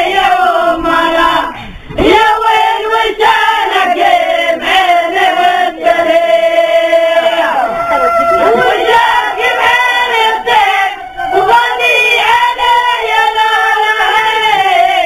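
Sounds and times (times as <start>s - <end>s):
group of voices chanting: 0.0s - 15.0s.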